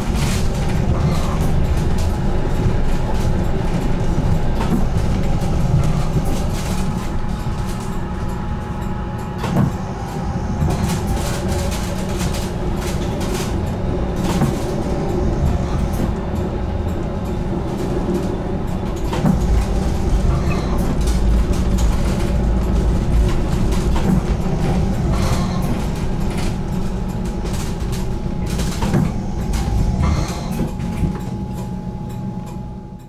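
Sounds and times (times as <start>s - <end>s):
tram rumbling: 0.0s - 33.0s.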